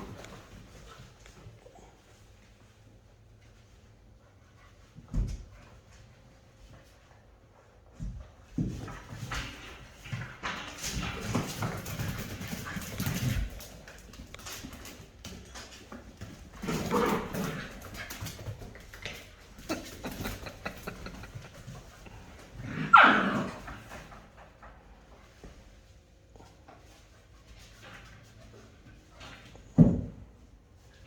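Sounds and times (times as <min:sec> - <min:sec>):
puppies scuffling: 0:00.0 - 0:31.0.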